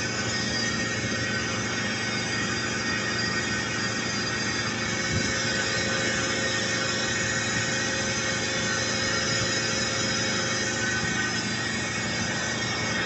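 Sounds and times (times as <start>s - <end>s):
high constant whine: 0.0s - 13.0s
machinery drone: 0.0s - 13.0s.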